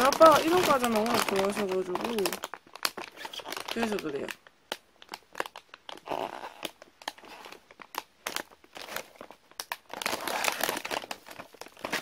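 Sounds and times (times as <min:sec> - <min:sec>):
plastic snack bag crinkling: 0:00.0 - 0:12.0.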